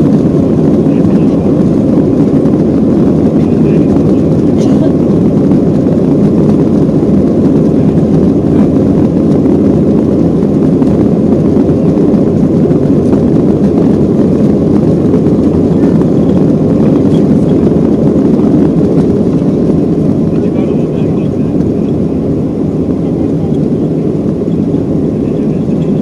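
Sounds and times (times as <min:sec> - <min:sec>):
jet engine roar in cabin: 0:00.0 - 0:26.0.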